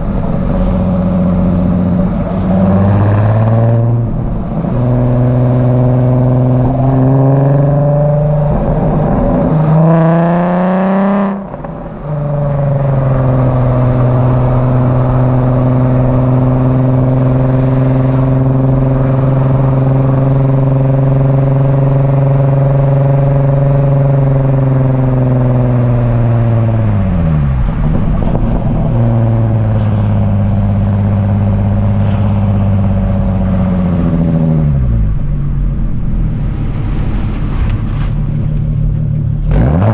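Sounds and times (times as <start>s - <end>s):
car engine and exhaust driving: 0.0s - 39.9s.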